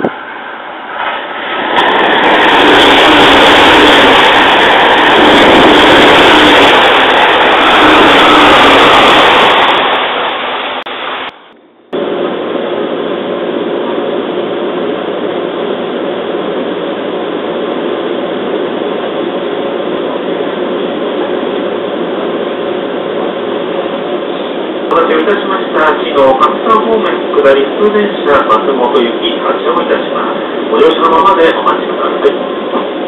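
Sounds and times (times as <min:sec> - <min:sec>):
train car interior hum: 0:00.0 - 0:33.0
train passing: 0:00.0 - 0:33.0.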